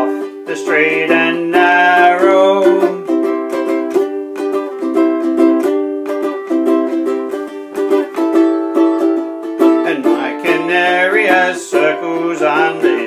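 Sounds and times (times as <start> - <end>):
ukulele strumming: 0.0 - 13.0.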